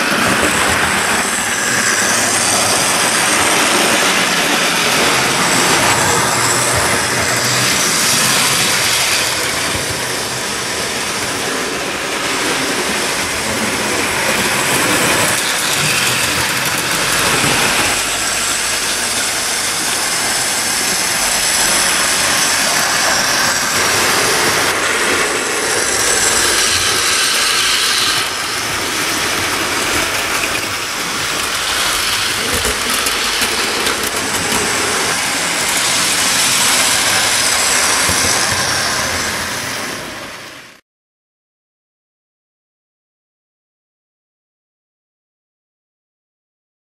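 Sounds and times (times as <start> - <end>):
model trains whirring on track: 0.0 - 40.8.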